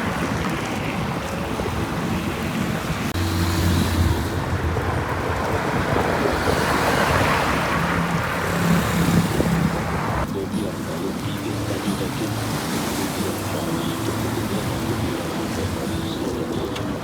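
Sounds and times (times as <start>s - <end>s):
motor vehicle humming past: 0.0s - 17.0s
traffic noise: 0.0s - 17.0s
wind rushing over microphone: 0.0s - 17.0s.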